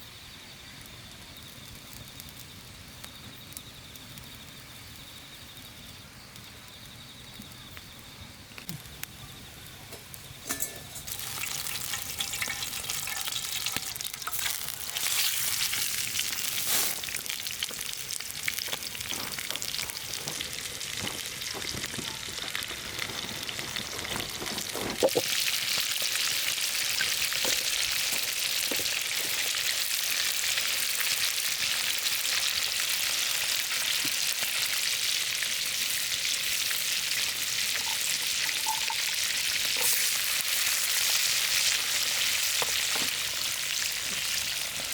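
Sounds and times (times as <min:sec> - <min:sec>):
food sizzling on a griddle: 0:08.4 - 0:44.9.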